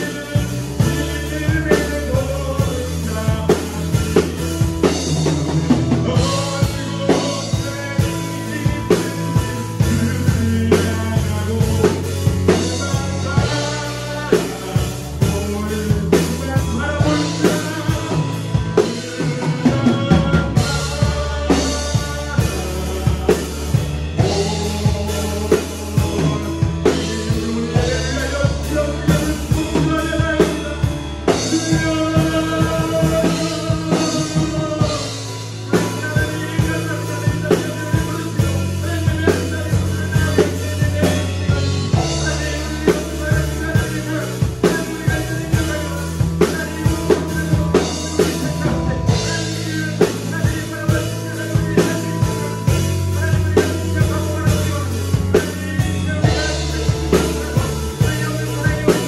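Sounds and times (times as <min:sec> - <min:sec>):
acoustic drum kit playing: 0:00.0 - 0:59.0
recorded worship song with singing: 0:00.0 - 0:59.0.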